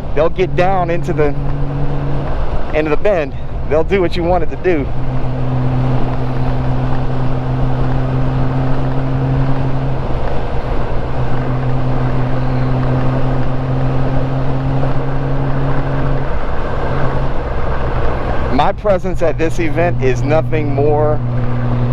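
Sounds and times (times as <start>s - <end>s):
wind rush: 0.0s - 18.6s
motorcycle engine cruising: 0.0s - 21.9s.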